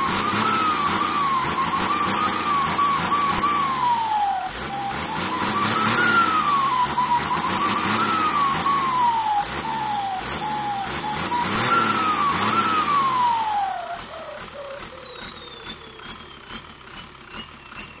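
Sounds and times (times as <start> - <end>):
turbo whine: 0.0 - 16.8
diesel engine idling: 0.0 - 18.0
diesel engine revving: 0.0 - 18.0.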